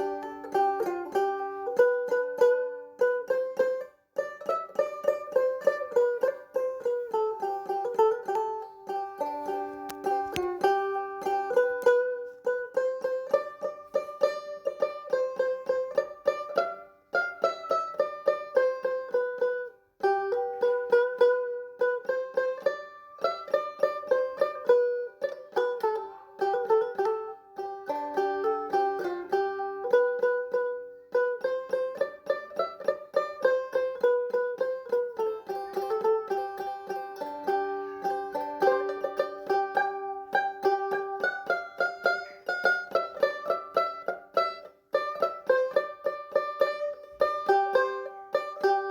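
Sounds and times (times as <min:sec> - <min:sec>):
plucked string instrument melody: 0:00.0 - 0:48.9.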